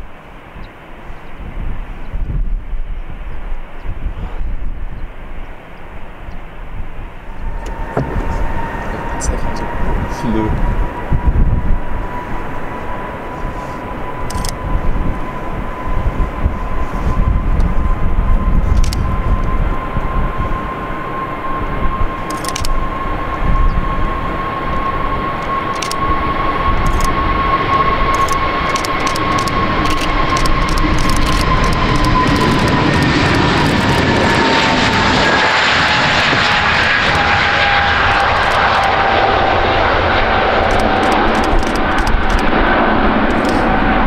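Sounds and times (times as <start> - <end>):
jet engines roaring at takeoff: 0.0 - 44.0.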